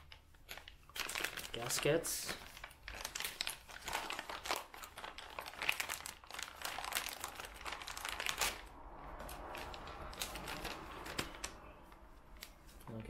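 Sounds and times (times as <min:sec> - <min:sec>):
plastic bag crinkling: 0:00.0 - 0:12.8.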